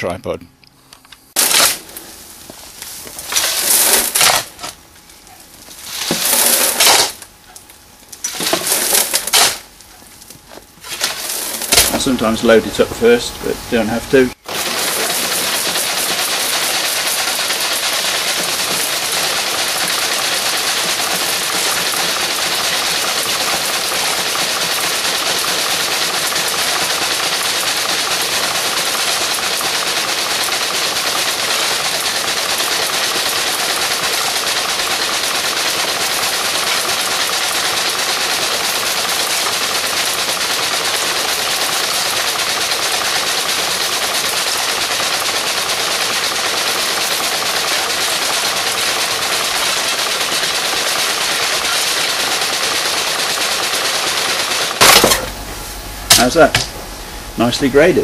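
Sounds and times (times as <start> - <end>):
sieve machine rattling: 1.4 - 2.0, 3.2 - 7.3, 8.2 - 9.8, 10.8 - 58.0.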